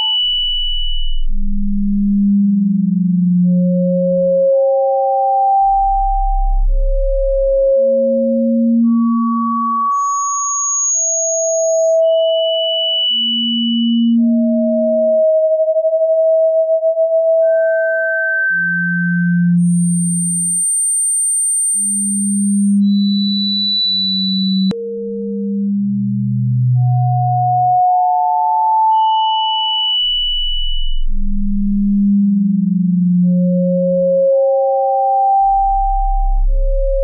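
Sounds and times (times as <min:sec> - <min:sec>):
electronic sine tones: 0:00.0 - 0:37.0.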